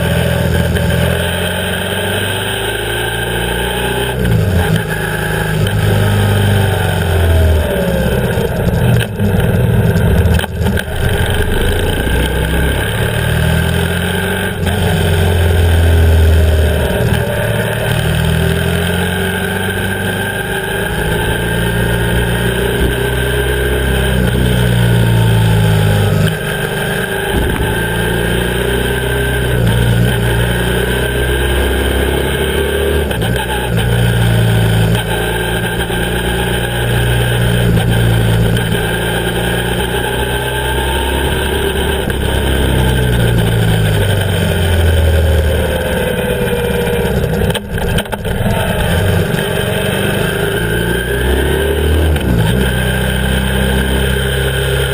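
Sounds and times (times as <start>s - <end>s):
motorcycle engine running: 0.0s - 54.9s
wind and road rush: 0.0s - 54.9s.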